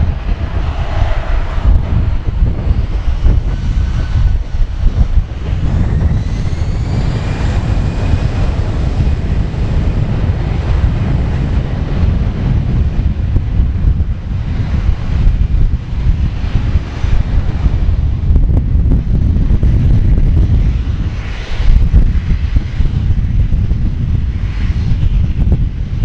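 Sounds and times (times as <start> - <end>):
jet engines rumbling: 0.0 - 26.0
rising engine whine: 0.0 - 26.0.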